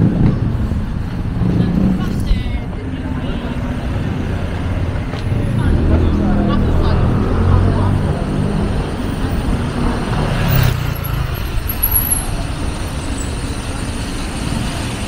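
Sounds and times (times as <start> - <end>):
vehicles passing with rumble: 0.0 - 15.0.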